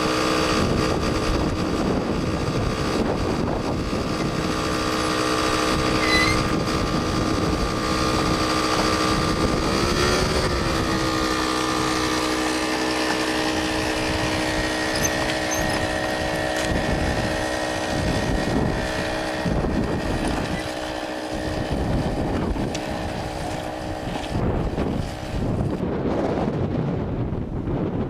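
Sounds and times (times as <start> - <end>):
vehicle engine droning: 0.0 - 26.5.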